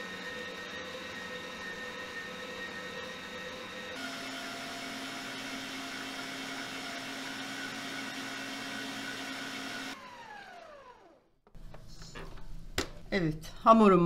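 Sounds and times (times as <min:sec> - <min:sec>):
stand mixer motor whining: 0:00.0 - 0:11.3.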